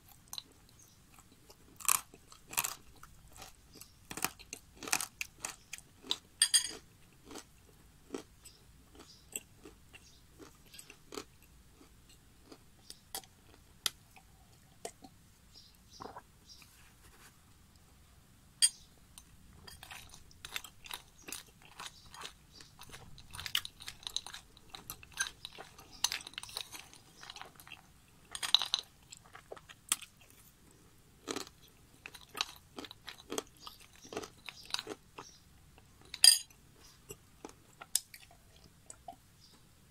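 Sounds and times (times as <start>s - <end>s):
crunching and chewing clay: 0.0s - 15.1s, 19.2s - 39.6s.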